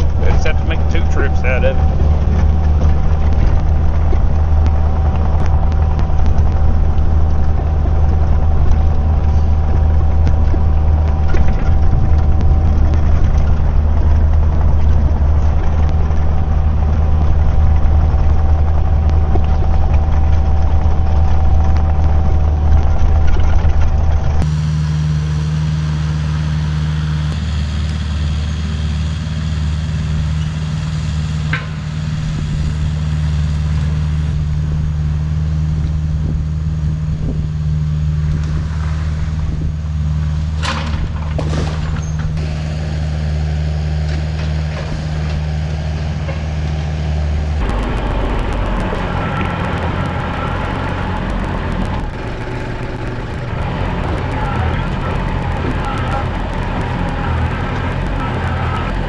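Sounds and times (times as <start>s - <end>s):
diesel engine running: 0.0s - 59.0s
steady whine: 0.0s - 59.0s.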